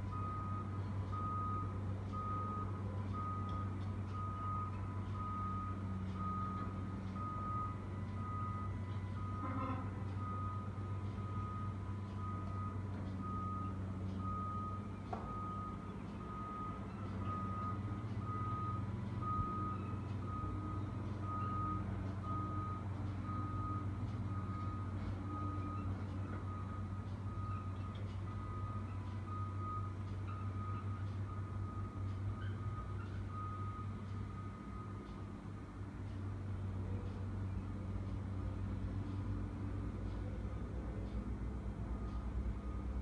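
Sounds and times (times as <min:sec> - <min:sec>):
back-up alarm beeping: 0:00.1 - 0:35.8.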